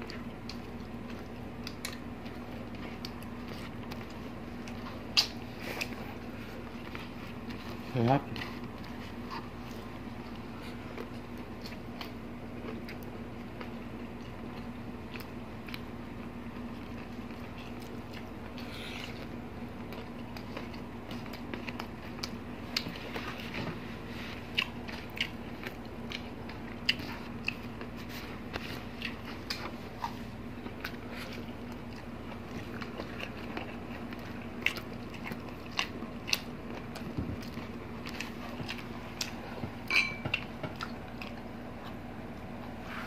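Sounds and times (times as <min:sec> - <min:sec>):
chewing and mouth smacks: 0:00.0 - 0:15.9, 0:16.5 - 0:42.8
faint steady hum: 0:00.0 - 0:43.0.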